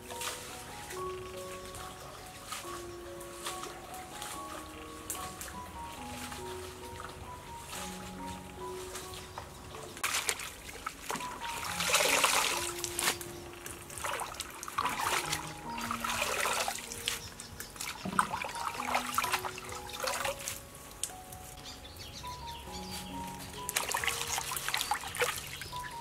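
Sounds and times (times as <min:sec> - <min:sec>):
soft background music: 0:00.0 - 0:26.0
water splashing and trickling: 0:00.0 - 0:26.0.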